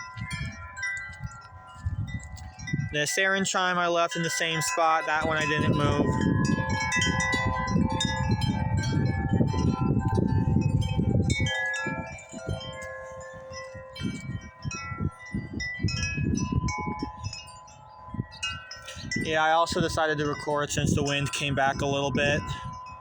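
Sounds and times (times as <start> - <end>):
low wind rumble: 0.0 - 23.0
wind chimes ringing: 0.0 - 23.0.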